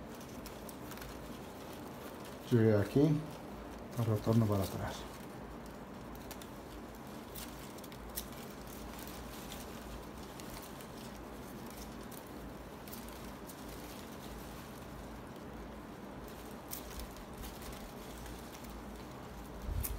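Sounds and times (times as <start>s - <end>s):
palm leaves rustling: 0.0s - 19.9s
steady low hum: 0.0s - 19.9s.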